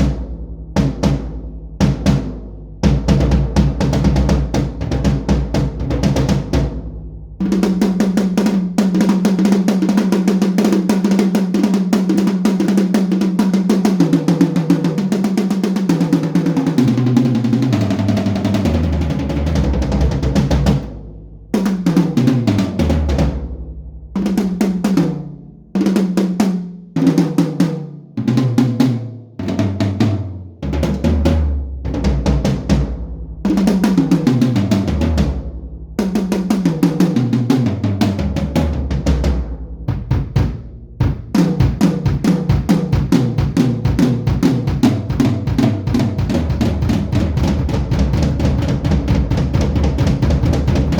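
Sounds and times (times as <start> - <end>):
drum fills falling in pitch: 0.0 - 21.0, 27.0 - 50.9
drum roll on toms: 0.0 - 50.9.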